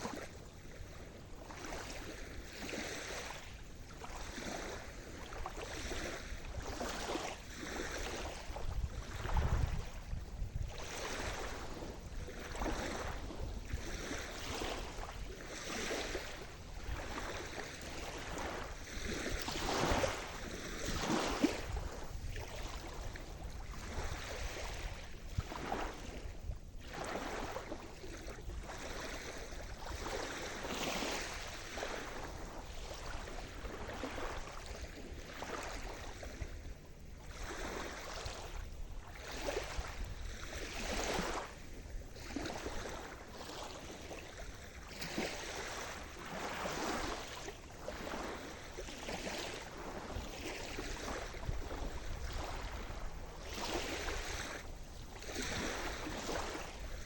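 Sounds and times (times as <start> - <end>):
small waves breaking: 0.0 - 57.0.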